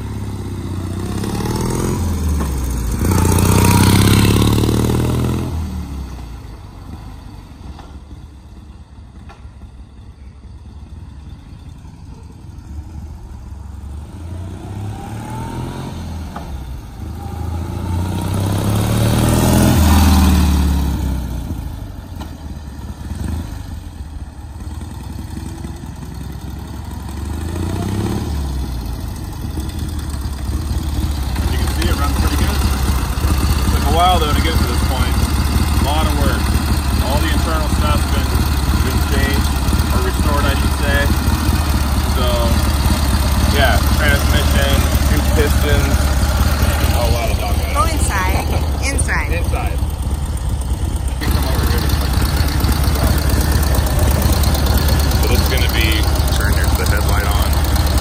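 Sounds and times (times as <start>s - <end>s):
motorcycle engine passing by: 0.0s - 6.2s, 13.5s - 58.0s.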